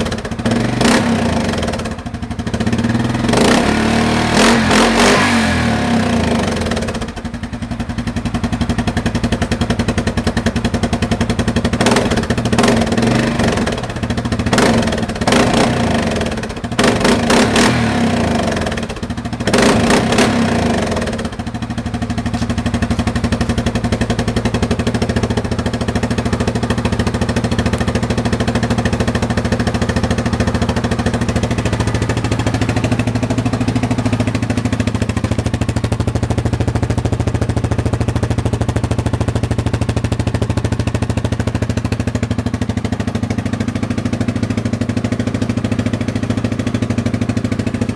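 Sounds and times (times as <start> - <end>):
quad bike engine revving: 0.0 - 7.6, 8.2 - 47.9
quad bike engine idling: 0.0 - 47.9.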